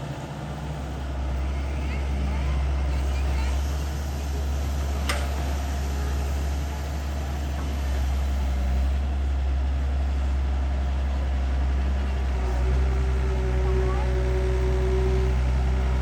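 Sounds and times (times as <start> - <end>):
diesel excavator engine running: 0.0 - 16.0.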